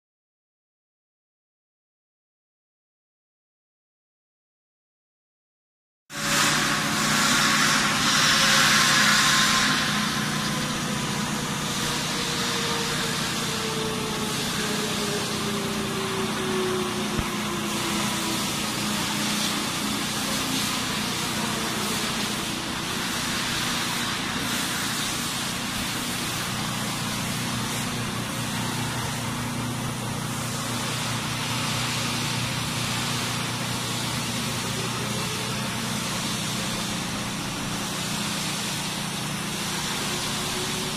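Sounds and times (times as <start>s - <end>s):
grinding and coolant spray hiss: 6.1s - 40.9s
grinding machine hum: 6.1s - 40.9s.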